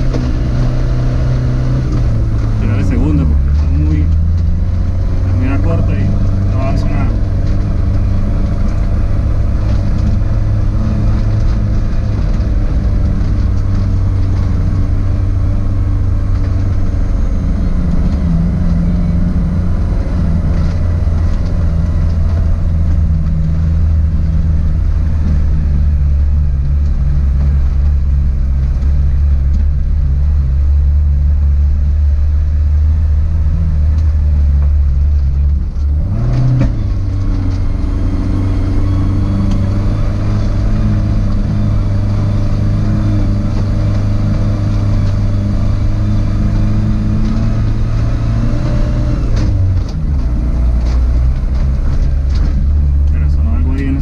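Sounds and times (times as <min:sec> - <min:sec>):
car engine droning while driving: 0:00.0 - 0:54.0.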